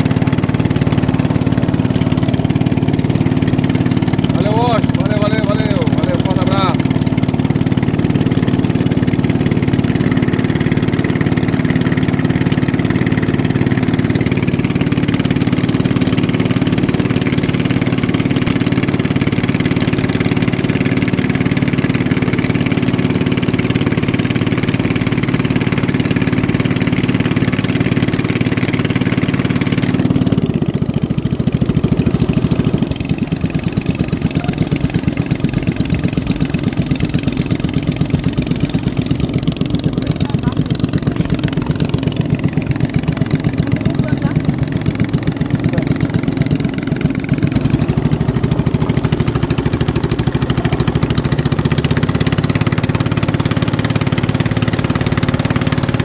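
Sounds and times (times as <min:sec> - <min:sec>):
racing boat engine running: 0:00.0 - 0:56.0.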